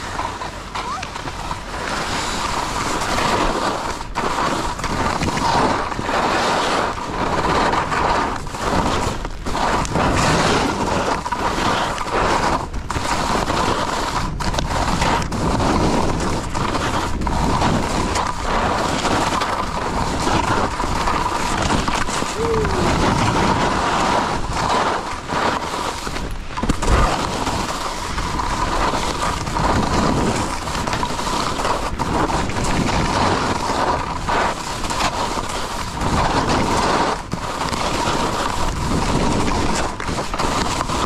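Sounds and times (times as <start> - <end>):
skis scraping over snow: 0.0 - 41.0
wind on microphone: 0.0 - 41.0.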